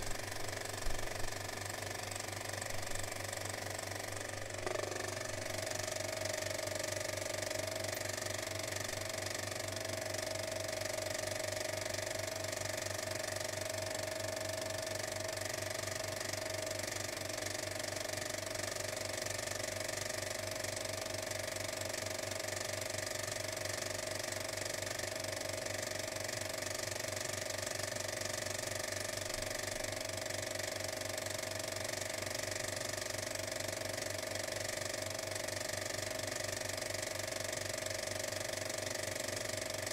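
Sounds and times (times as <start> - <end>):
constant machine hum: 0.0 - 39.9.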